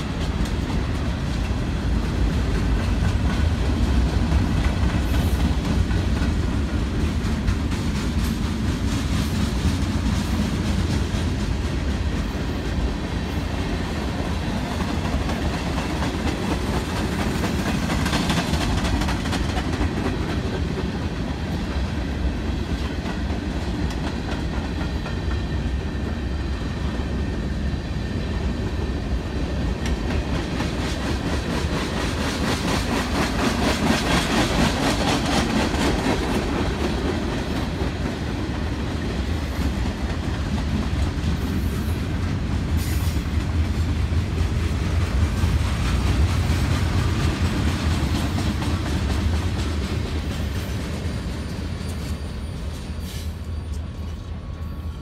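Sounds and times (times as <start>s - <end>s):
freight train rolling past: 0.0s - 55.0s
wheels clickety-clack on rail: 0.0s - 55.0s.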